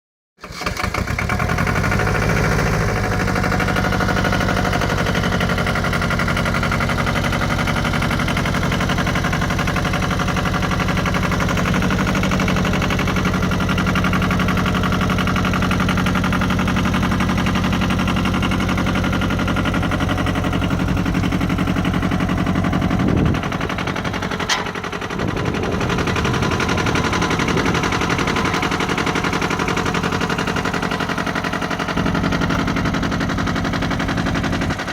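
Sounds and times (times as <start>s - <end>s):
diesel tractor engine running: 0.5s - 34.9s.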